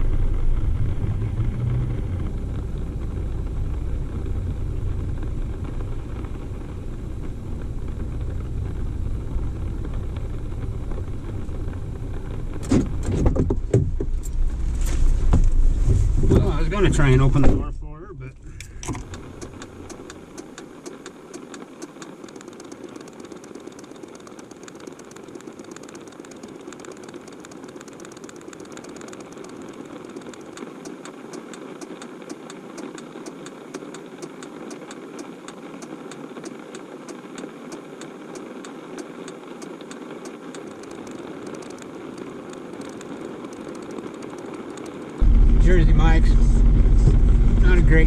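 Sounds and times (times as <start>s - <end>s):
car engine and road hum: 0.0s - 48.0s
rain ticking on car roof: 0.0s - 48.0s.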